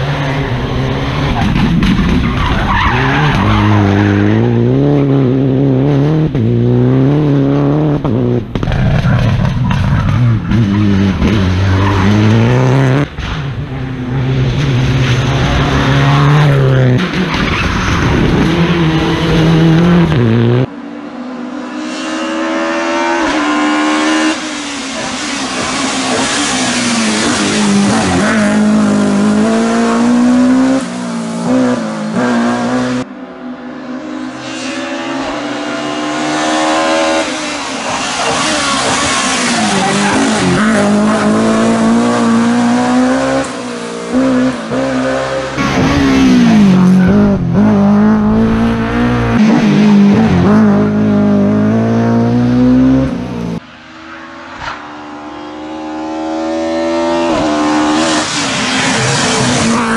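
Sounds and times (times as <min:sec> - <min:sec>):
rally car engine revving: 0:00.0 - 0:33.1, 0:33.8 - 0:59.9.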